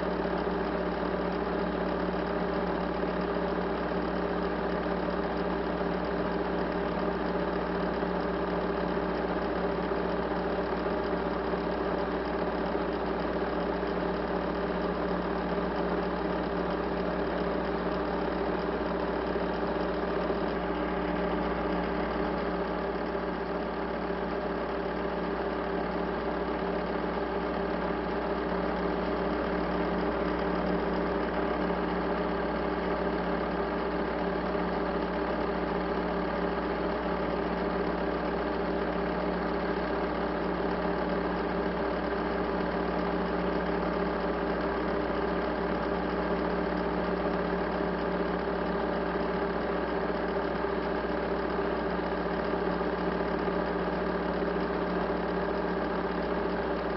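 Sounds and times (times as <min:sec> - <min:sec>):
steady machine hum: 0:00.0 - 0:56.9.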